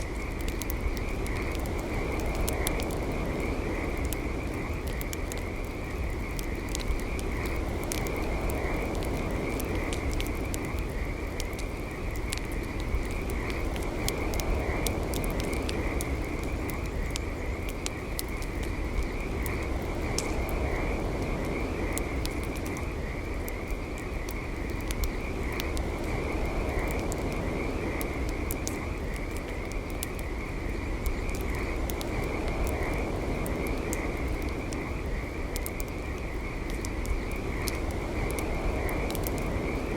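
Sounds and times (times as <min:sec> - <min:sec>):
campfire crackling and popping: 0:00.0 - 0:39.9
frogs trilling: 0:00.0 - 0:39.9.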